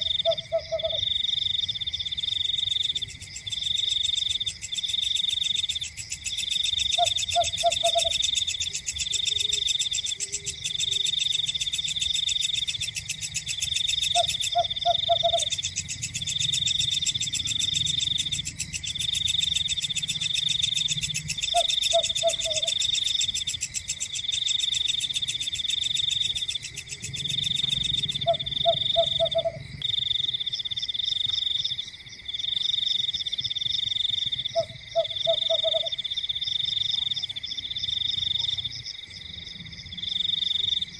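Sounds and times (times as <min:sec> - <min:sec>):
frog croaking: 0:00.0 - 0:31.7, 0:33.5 - 0:40.9
insects trilling: 0:00.0 - 0:40.9.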